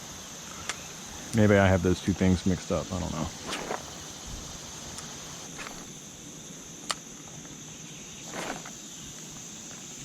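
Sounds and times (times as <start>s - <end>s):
insect chorus: 0.0s - 10.0s.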